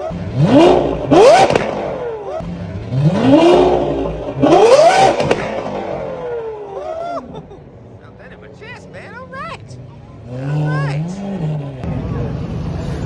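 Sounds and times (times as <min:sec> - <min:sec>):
engine revving: 0:00.0 - 0:06.7, 0:09.2 - 0:13.0.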